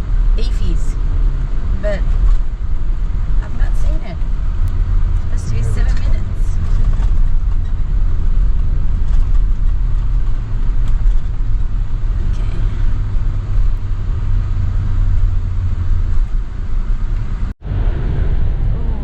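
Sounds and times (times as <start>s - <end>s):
vehicle cabin road noise: 0.0s - 19.0s.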